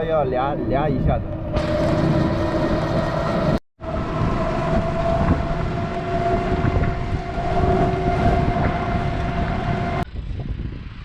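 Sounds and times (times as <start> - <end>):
engine running steadily: 1.2 - 11.0.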